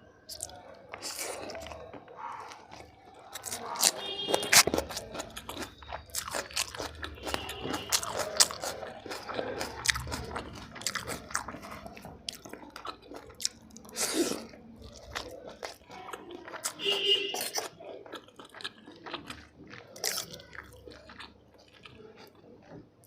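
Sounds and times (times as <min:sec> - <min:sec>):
person chewing food: 0:00.3 - 0:23.0.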